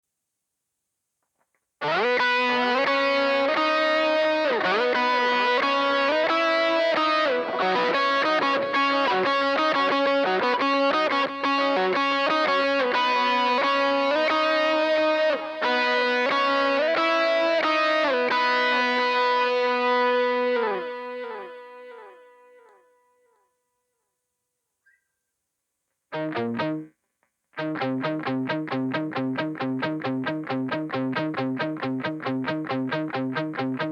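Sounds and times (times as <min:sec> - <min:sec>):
distorted electric guitar: 0:01.8 - 0:22.7, 0:26.2 - 0:26.9, 0:27.6 - 0:33.9.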